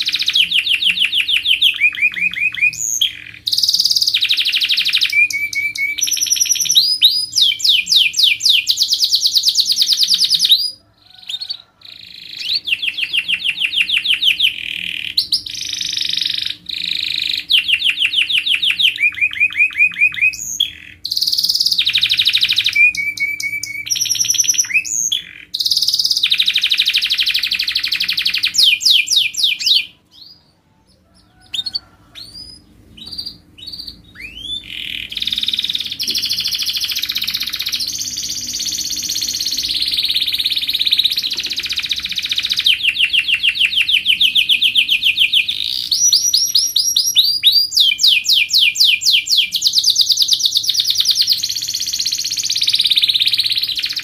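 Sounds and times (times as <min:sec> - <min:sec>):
canary singing trills and chirps: 0:00.0 - 0:54.0.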